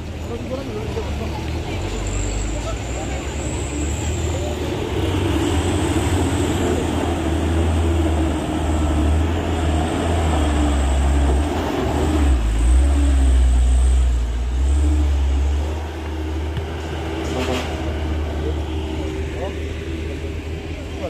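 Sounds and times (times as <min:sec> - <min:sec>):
vehicle engine low rumble: 0:00.0 - 0:21.0.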